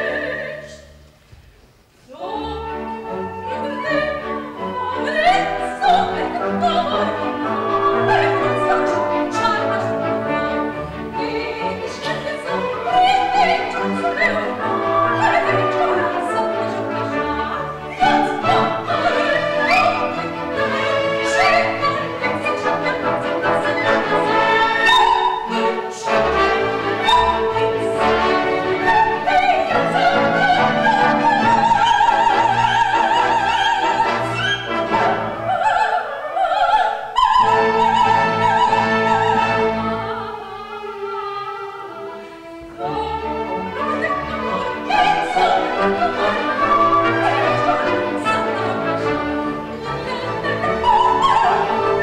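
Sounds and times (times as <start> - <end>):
soprano singing operatically: 0.0 - 1.0, 2.1 - 52.0
orchestra playing: 2.3 - 52.0.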